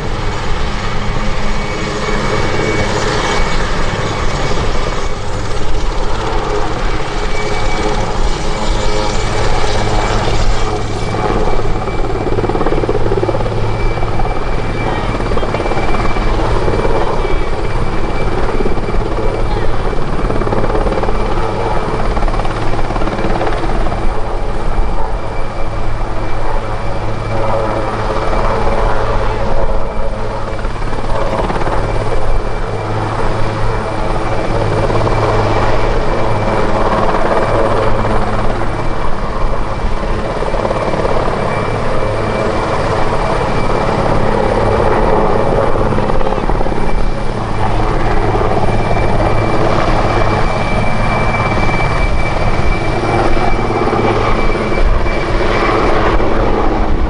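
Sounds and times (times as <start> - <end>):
helicopter rotor noise: 0.0 - 57.0
high turbine whine: 0.0 - 57.0.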